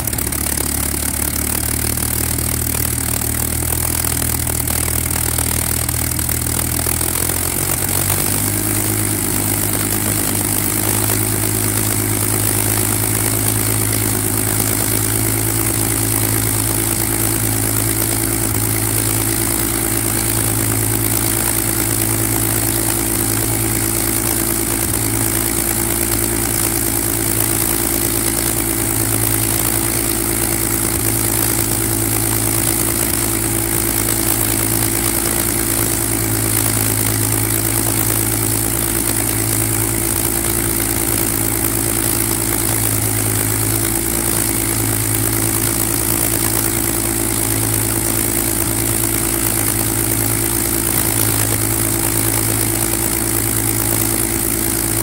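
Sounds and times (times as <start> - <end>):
aircraft engine idling: 0.0 - 55.0.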